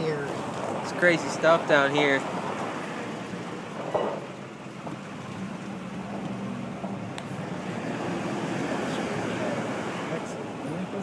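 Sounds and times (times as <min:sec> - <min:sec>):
vehicle engine and tyre drone: 0:00.0 - 0:11.0.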